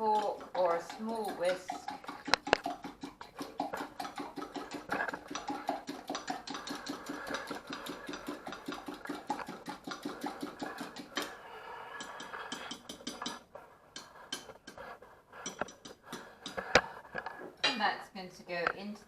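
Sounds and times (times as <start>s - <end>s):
whisk tapping and scraping jug: 0.0s - 17.4s.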